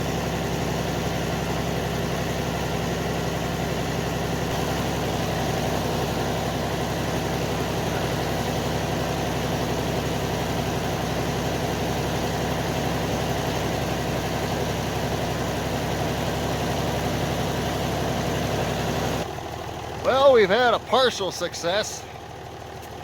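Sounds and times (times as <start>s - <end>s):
tractor engine chugging: 0.0s - 23.0s.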